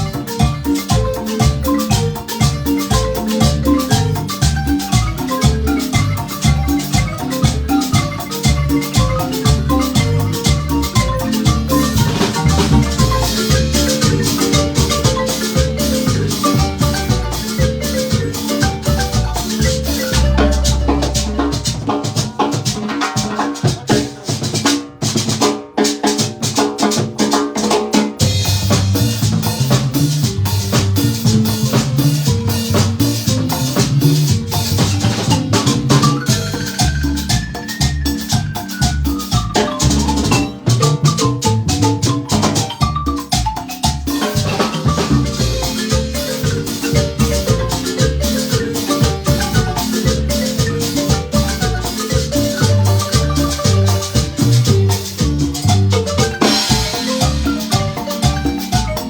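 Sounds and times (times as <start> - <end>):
bass: 0.0 - 25.4, 26.2 - 59.0
marimba ensemble playing: 0.0 - 59.0
rapid percussion: 0.0 - 59.0.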